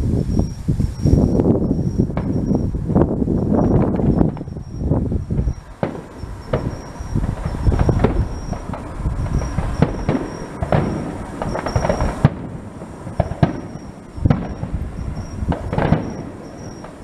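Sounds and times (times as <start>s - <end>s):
firework shells bursting: 0.9s - 17.0s.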